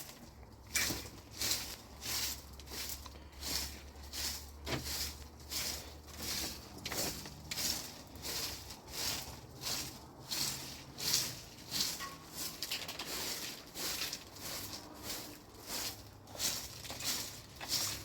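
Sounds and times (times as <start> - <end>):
footsteps crunching through snow: 0.0 - 18.0.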